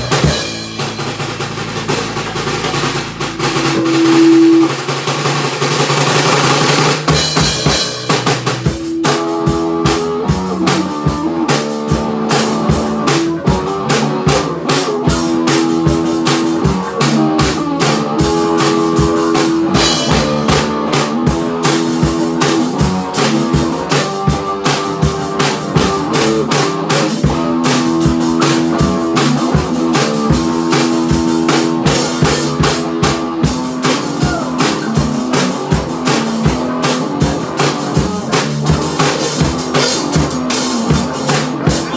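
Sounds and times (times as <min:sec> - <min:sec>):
drum kit beat: 0:00.0 - 0:41.9
electric bass and guitar riff: 0:00.0 - 0:41.9.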